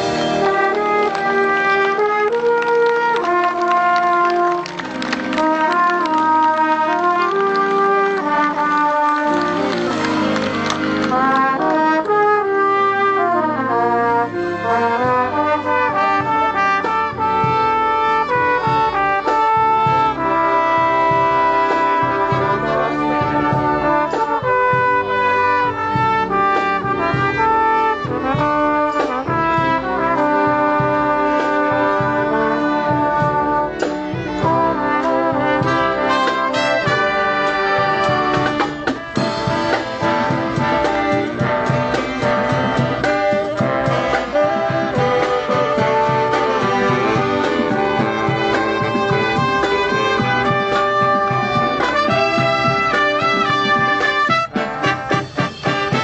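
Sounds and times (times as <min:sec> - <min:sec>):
brass band playing lively tune: 0:00.0 - 0:56.0.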